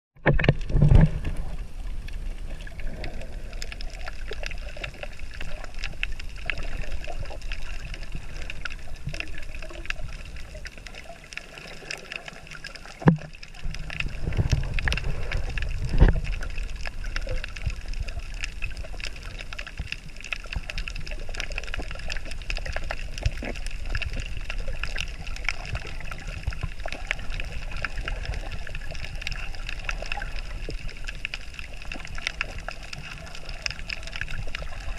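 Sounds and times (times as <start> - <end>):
faint crackling clicks: 0.2 - 34.9
underwater rumble of moving water: 0.2 - 34.9.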